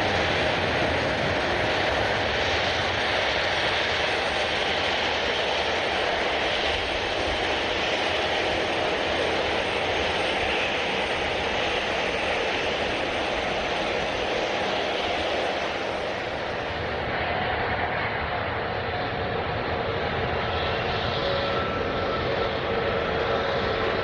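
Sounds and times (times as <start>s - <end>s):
airliner engines running: 0.0s - 24.0s.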